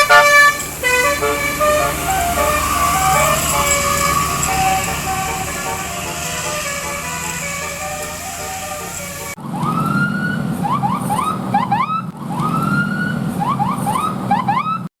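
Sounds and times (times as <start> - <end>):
engine running: 0.0 - 14.5
electronic siren horn whoop and chirps: 0.0 - 14.9.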